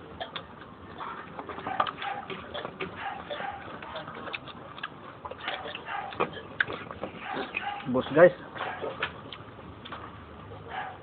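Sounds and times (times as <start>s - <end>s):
chewing and lip-smacking: 0.0s - 11.0s.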